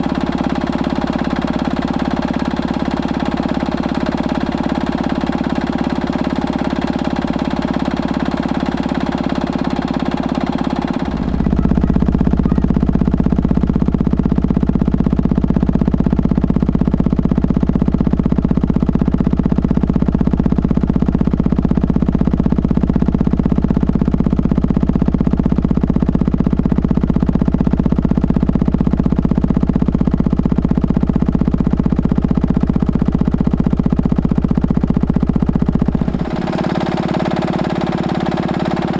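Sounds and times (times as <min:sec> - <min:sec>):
stationary engine running: 0:00.0 - 0:38.9.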